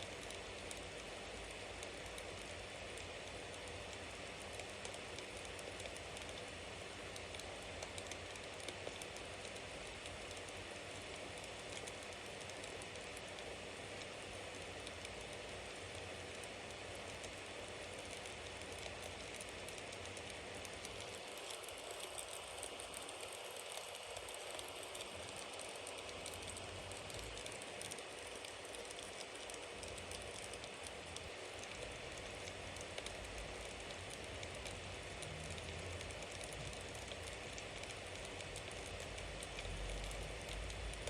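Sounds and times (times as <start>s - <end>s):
burning wood crackling and popping: 0.1s - 41.0s
low fire rumble: 0.1s - 41.0s.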